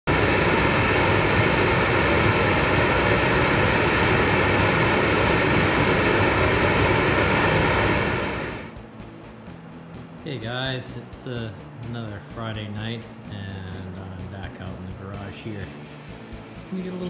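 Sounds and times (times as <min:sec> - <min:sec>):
heater burner flame rushing: 0:00.0 - 0:17.0.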